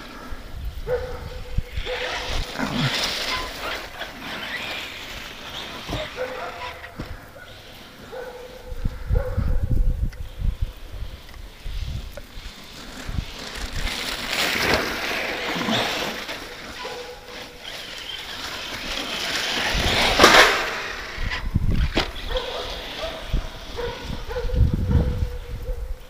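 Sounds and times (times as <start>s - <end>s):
rc car motor and tyres: 0.0s - 9.2s, 9.8s - 26.0s.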